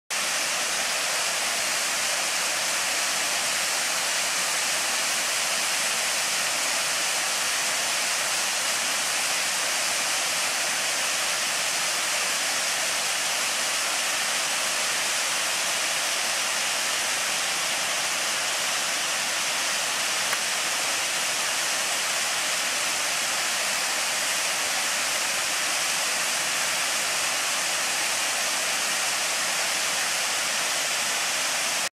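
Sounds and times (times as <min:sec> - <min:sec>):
waterfall rushing: 0:00.2 - 0:31.9.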